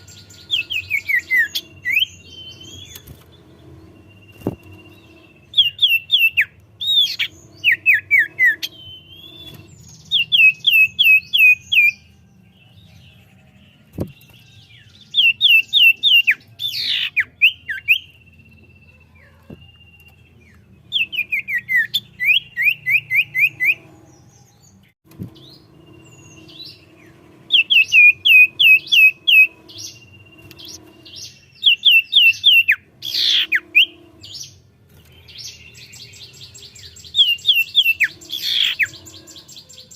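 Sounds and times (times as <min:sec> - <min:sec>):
bird whistling song: 0:00.0 - 0:12.8, 0:14.0 - 0:39.9.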